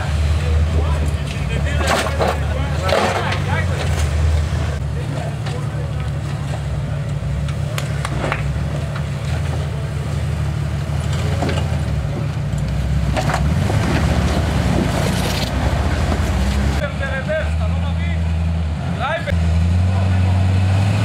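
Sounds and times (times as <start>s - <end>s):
engine running at low revs: 0.0s - 21.0s.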